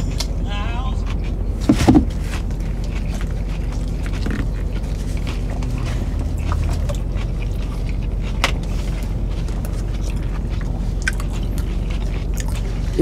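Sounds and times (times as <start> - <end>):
car engine idling: 0.0 - 13.0
chewing: 0.0 - 13.0.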